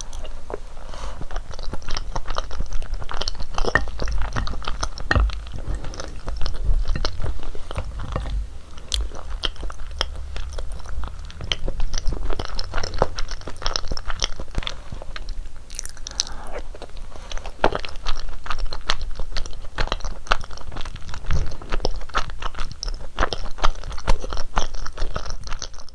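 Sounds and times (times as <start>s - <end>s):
chewing rice cakes: 0.0s - 25.9s.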